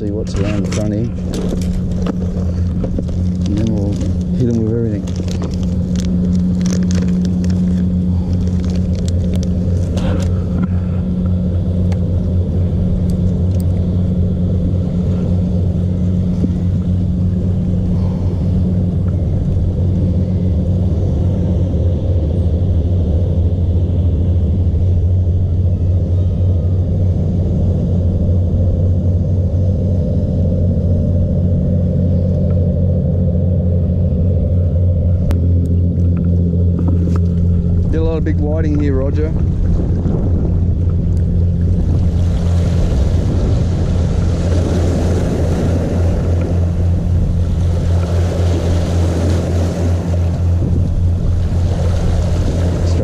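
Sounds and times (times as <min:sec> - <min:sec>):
low mechanical hum and rumble: 0:00.0 - 0:53.0.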